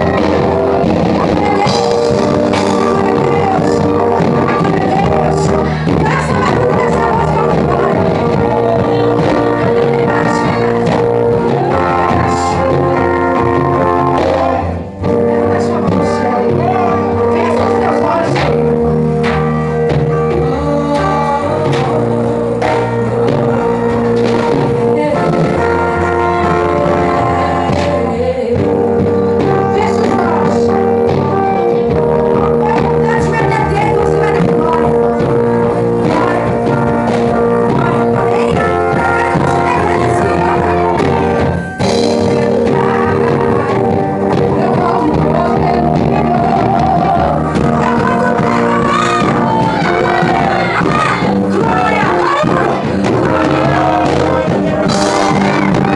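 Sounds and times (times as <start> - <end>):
drums striking: 0.0 - 55.9
gospel band music: 0.0 - 55.9
person singing: 0.0 - 55.9.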